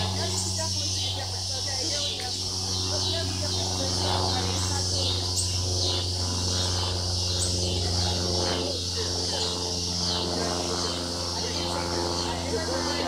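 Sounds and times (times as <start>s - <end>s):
cicadas and crickets shrilling: 0.0s - 13.0s
steady low hum: 0.0s - 13.0s.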